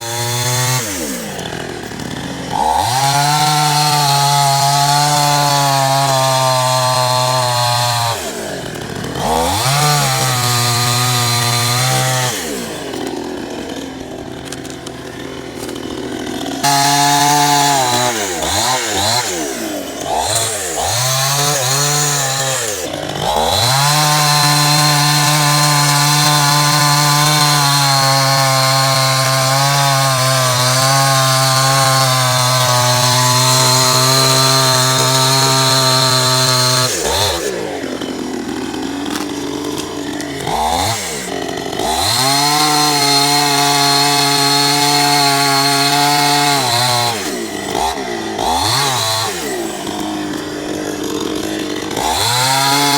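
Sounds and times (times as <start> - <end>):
chainsaw engine revving: 0.0 - 52.9.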